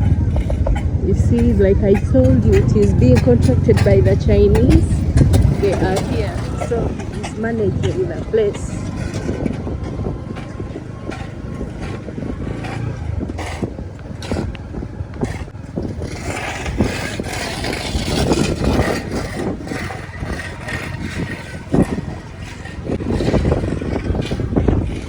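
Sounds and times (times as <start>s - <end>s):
knocks and rattles: 0.0s - 25.0s
vehicles rumbling on a road: 0.0s - 25.0s.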